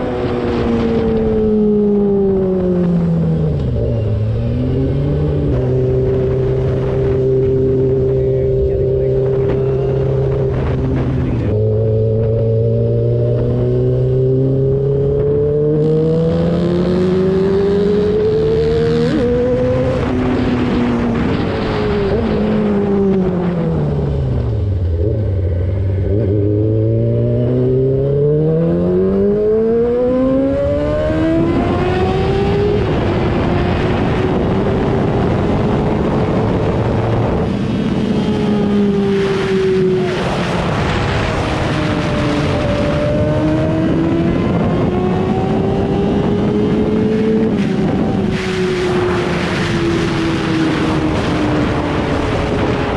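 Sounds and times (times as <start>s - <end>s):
motorcycle engine revving: 0.0s - 52.9s
wind noise: 0.0s - 52.9s.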